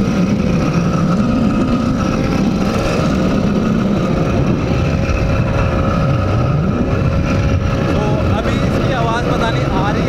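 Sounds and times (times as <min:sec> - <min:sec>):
two-stroke engine running: 0:00.0 - 0:10.0.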